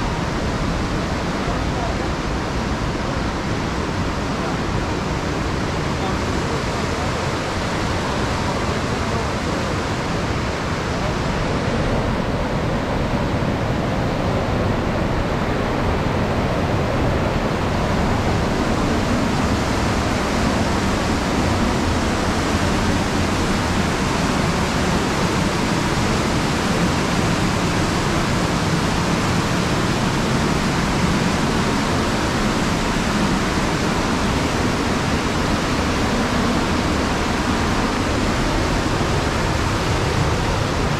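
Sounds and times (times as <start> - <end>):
whitewater rushing over rocks: 0.0 - 40.9.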